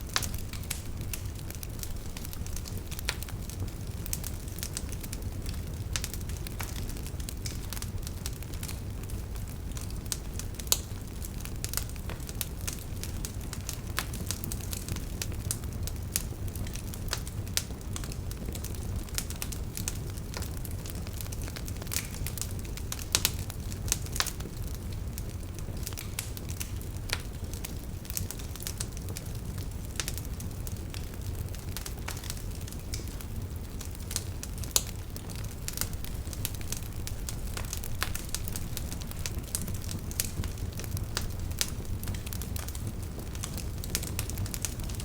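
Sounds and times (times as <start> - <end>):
fire pops and snaps: 0.0 - 45.0
low rumble of burning: 0.0 - 45.0
wood fire crackling: 0.0 - 45.0.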